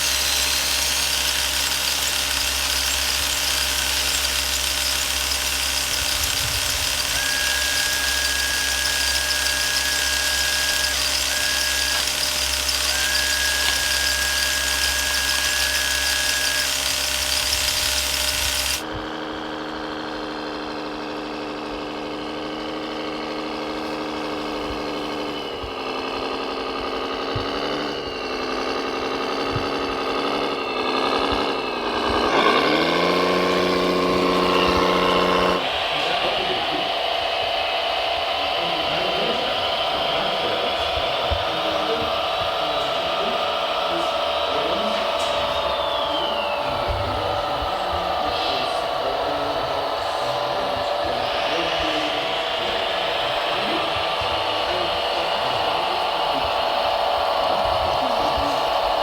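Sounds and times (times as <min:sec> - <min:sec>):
motor pitch rising and falling: 0:00.0 - 0:59.0
small electric motors whining: 0:00.0 - 0:59.0.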